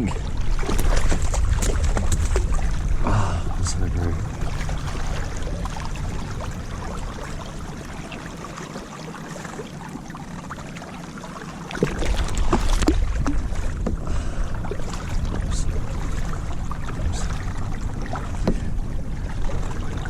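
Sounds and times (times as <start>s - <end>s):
wind rumble on microphone: 0.0s - 8.7s, 11.8s - 20.0s
water lapping around boat: 0.0s - 20.0s.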